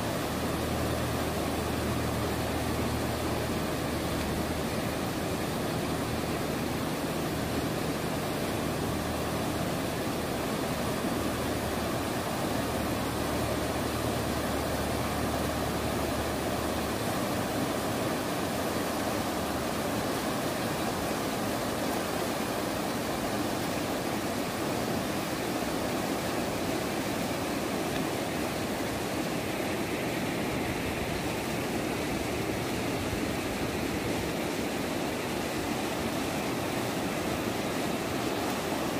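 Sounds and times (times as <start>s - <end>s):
river rushing over rapids: 0.0s - 38.9s.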